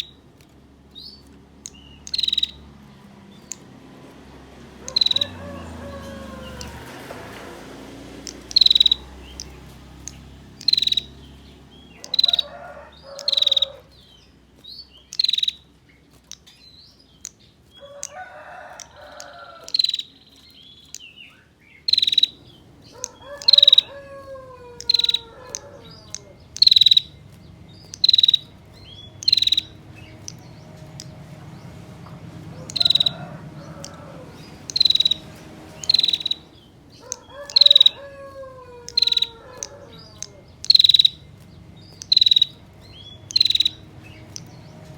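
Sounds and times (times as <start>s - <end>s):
birds warbling: 0.0s - 44.9s.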